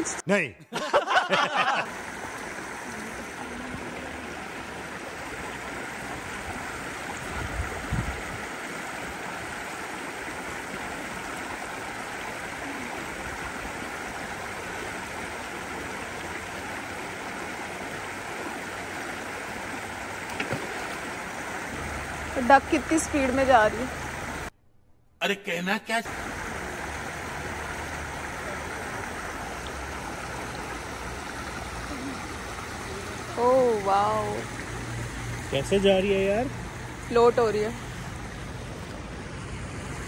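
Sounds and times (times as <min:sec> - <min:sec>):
river water rushing: 0:01.3 - 0:24.5, 0:26.1 - 0:40.0.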